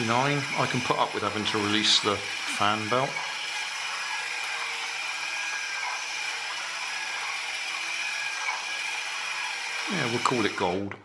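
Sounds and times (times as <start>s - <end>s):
plastic gears whirring and rattling: 0.0s - 10.8s.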